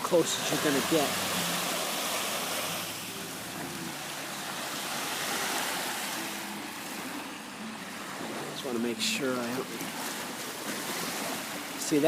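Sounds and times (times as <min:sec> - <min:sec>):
waves washing: 0:00.0 - 0:12.0
wind: 0:00.0 - 0:12.0.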